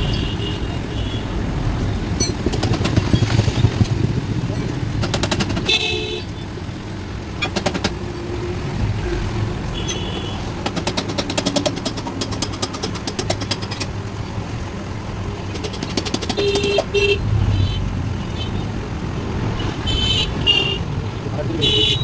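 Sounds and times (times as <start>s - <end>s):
rapid mechanical rattling: 0.0s - 19.2s
vehicle engine rumble: 0.0s - 22.0s.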